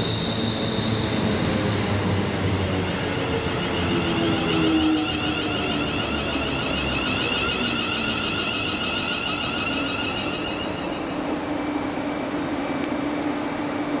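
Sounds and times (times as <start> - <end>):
high wavering whine: 0.0 - 14.0
train rail noise: 0.0 - 14.0.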